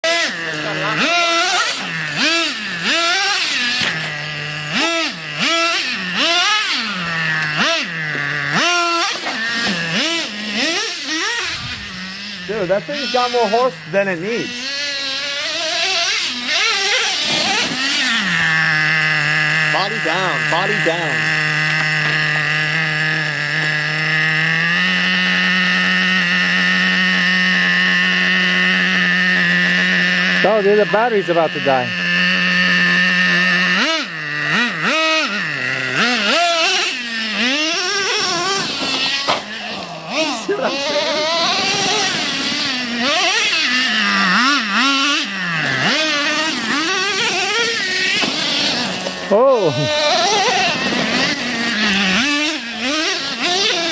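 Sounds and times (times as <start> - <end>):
rc car engine buzzing: 0.0 - 53.9.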